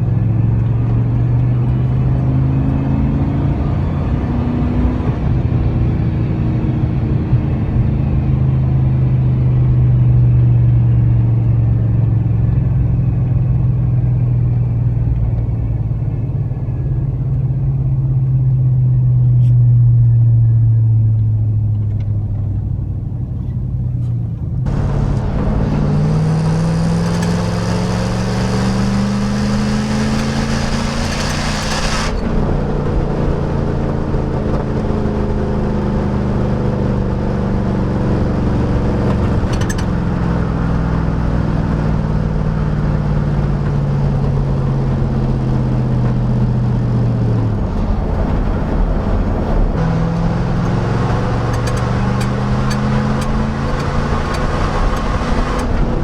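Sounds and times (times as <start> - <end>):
engine exhaust drone accelerating: 0.0 - 56.0.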